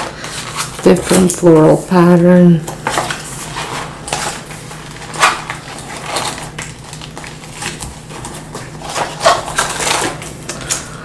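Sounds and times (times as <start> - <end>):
paper pages rustling: 0.0 - 1.9, 2.8 - 11.0.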